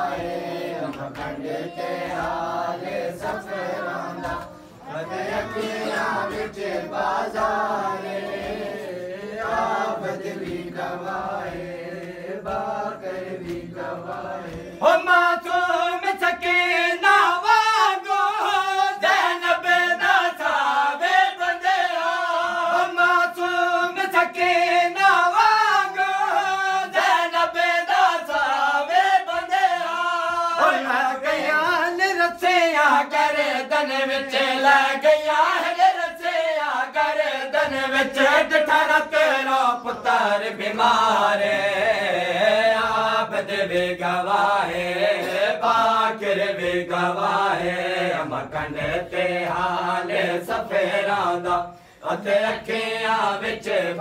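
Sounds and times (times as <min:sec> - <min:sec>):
group of men chanting: 0:00.0 - 0:54.0.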